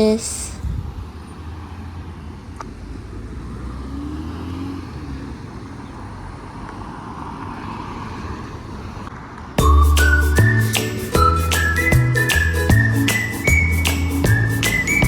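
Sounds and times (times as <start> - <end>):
running vehicle rumble: 0.0 - 15.0.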